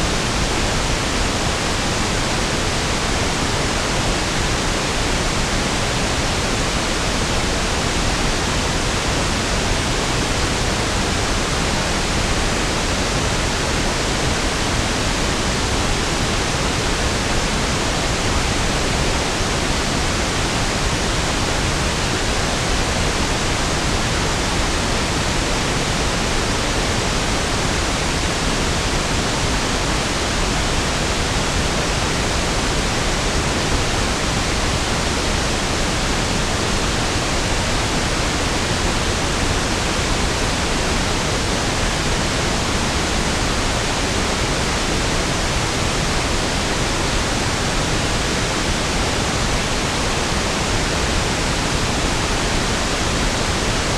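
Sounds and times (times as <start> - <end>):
steady pink noise hiss: 0.0 - 53.9.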